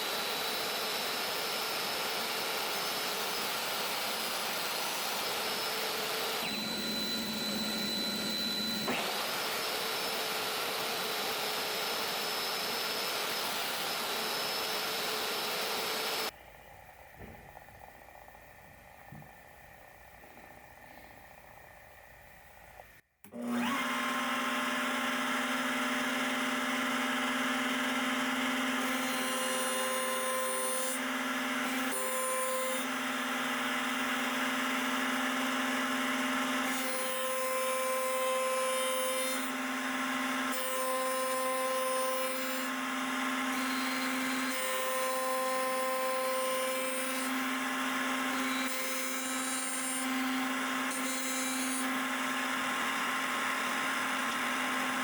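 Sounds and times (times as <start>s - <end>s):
power tool motor hum: 0.0s - 16.4s, 23.3s - 55.0s.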